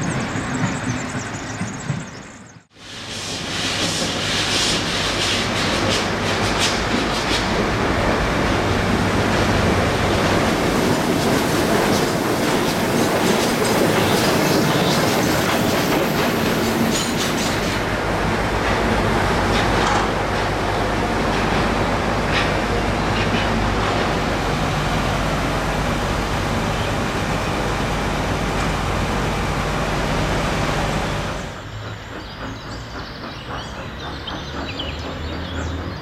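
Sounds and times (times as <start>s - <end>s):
train wheels clattering on rails: 0.0s - 25.2s, 31.1s - 36.0s.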